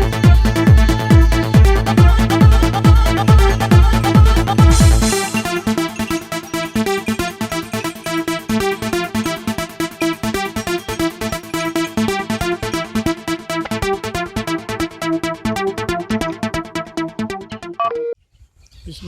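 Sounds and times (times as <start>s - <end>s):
electronic music with synthesizer: 0.0s - 18.2s.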